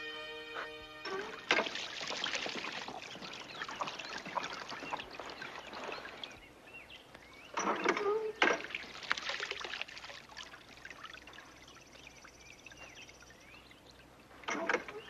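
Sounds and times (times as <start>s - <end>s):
water splashing and trickling: 1.0s - 15.0s
small birds chirping: 1.8s - 9.6s, 10.2s - 15.0s.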